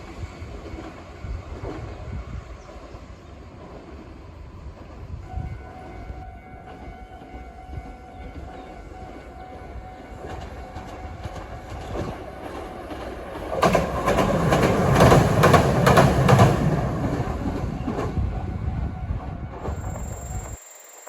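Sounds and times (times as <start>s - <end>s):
train passing: 0.0s - 20.9s.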